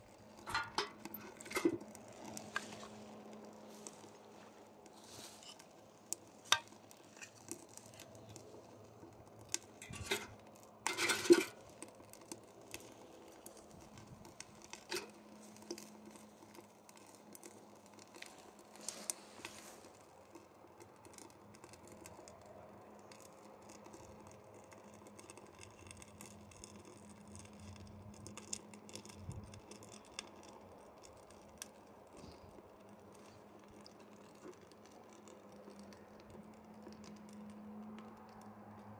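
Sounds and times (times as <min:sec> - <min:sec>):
sharp snaps and pops: 0:00.0 - 0:38.9
wood fire crackling: 0:00.0 - 0:38.9.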